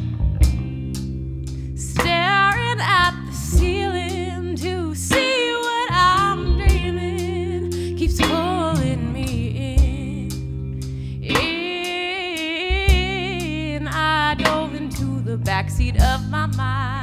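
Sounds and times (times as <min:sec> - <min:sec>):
electric bass and guitar: 0:00.0 - 0:17.0
woman singing with vibrato: 0:01.8 - 0:10.5, 0:11.2 - 0:17.0.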